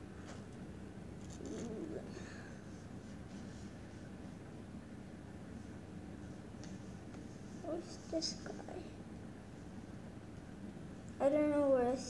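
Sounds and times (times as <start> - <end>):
faint low hum and hiss: 0.0 - 12.0.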